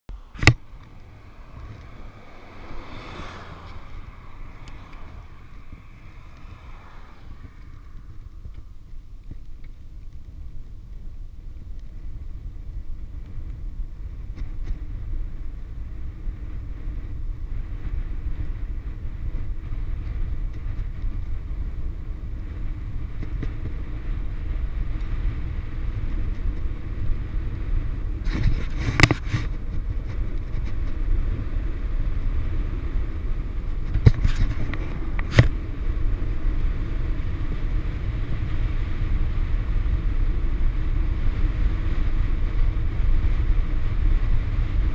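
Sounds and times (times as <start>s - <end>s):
tyres rumbling on asphalt: 0.1s - 44.9s
wind rushing over microphone: 0.1s - 44.9s.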